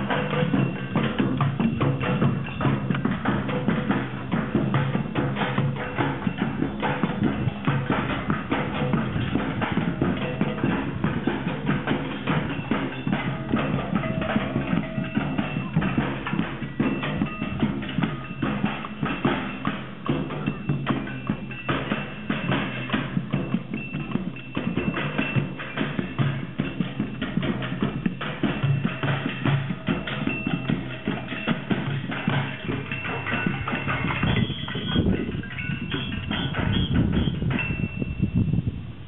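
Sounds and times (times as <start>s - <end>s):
group drumming: 0.0s - 37.9s.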